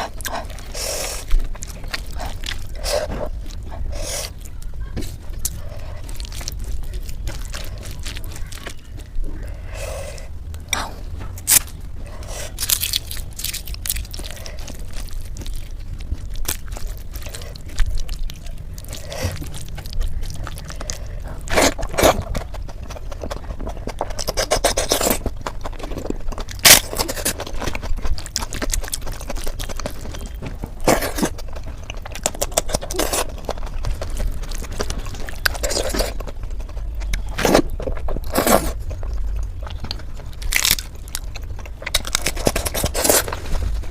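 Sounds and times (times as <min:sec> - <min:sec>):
sharp clicks and crunches: 0:00.0 - 0:09.4, 0:10.5 - 0:43.9
chewing and biting food: 0:00.0 - 0:43.9
steady low hum: 0:00.0 - 0:43.9.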